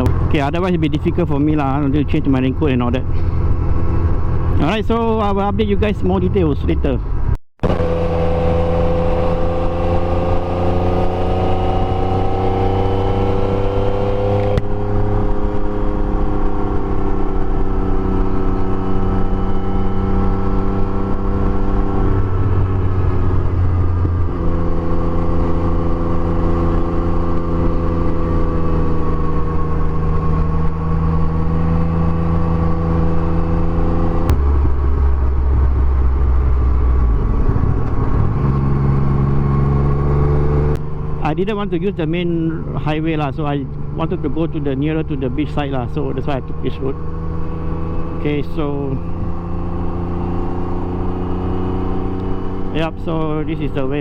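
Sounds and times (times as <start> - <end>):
motorcycle engine changing gears: 7.6 - 54.0.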